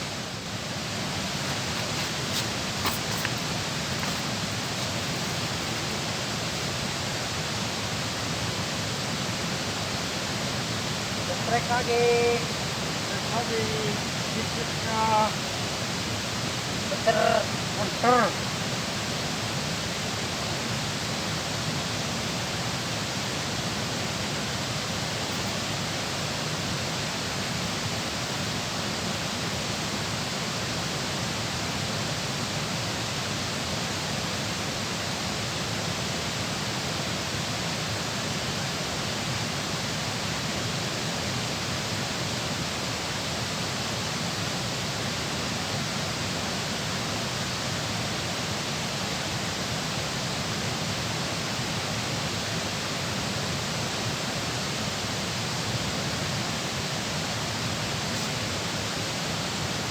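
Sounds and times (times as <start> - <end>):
water rushing at a dam: 0.0 - 59.9.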